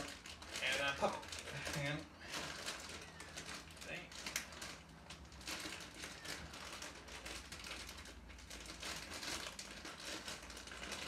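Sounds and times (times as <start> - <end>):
plastic bag crinkling and tearing: 0.0 - 11.0.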